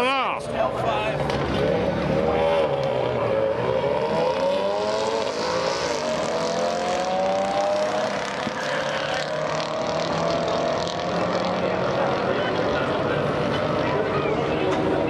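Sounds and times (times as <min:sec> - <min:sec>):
car engines accelerating hard: 0:00.5 - 0:15.0.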